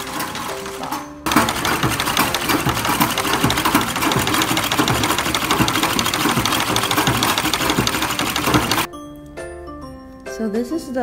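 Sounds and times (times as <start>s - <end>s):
sewing machine clatter: 0.0s - 8.9s.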